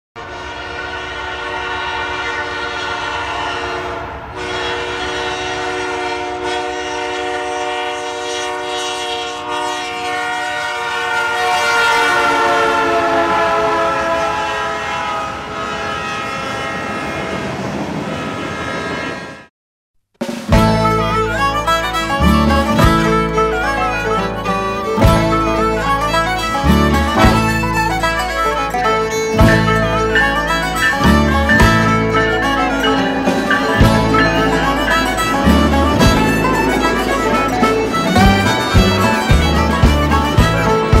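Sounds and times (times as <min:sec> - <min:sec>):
locomotive air horn blasts: 0:00.2 - 0:17.4, 0:20.6 - 0:41.0
train rumbling on rails: 0:00.2 - 0:19.5, 0:20.5 - 0:41.0.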